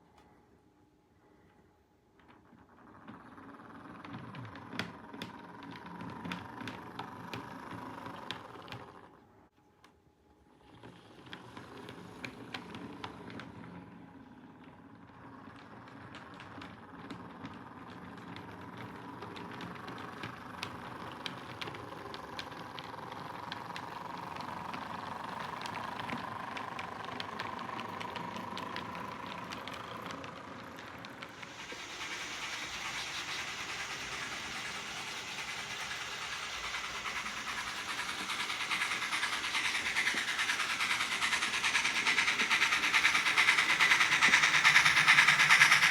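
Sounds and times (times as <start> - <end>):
wheels clicking over rail joints: 2.2 - 9.2, 10.6 - 45.9
model train rumbling: 2.3 - 9.2, 10.6 - 45.9.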